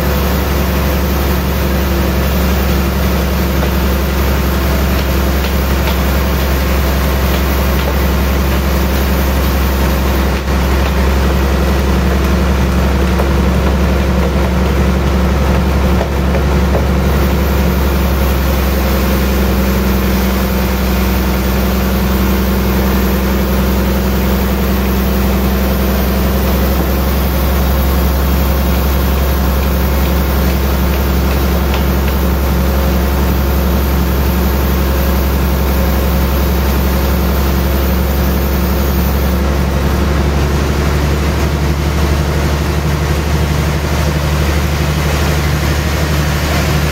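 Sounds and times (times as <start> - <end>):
band sawmill cutting log: 0.0 - 46.9.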